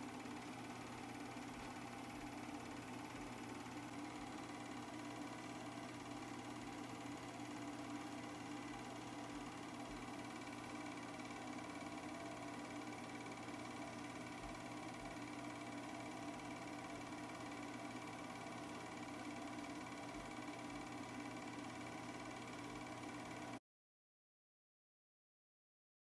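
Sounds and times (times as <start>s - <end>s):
film projector humming and whirring: 0.0s - 23.6s.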